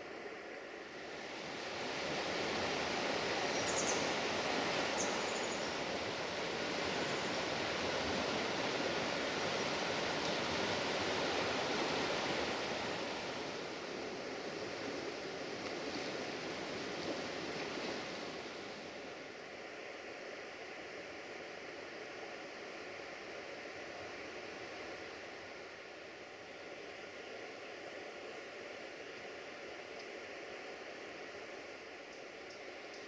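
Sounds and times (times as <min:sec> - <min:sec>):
rushing outdoor ambient noise: 0:00.0 - 0:33.0.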